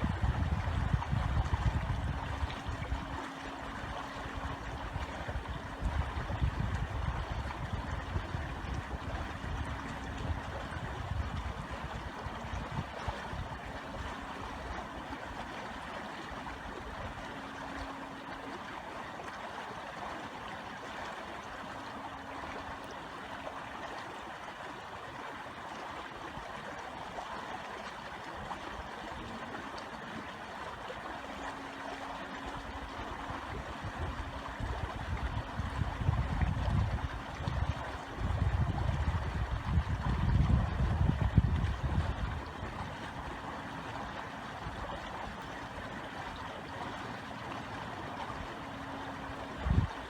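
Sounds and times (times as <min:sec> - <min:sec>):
brook water running: 0:00.0 - 0:50.0.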